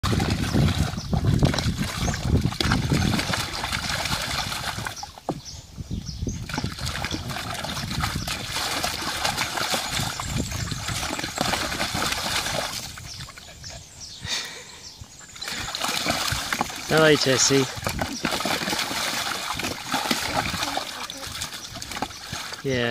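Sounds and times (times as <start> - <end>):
dog splashing water: 0.0 - 5.4, 6.4 - 13.8, 15.2 - 22.9.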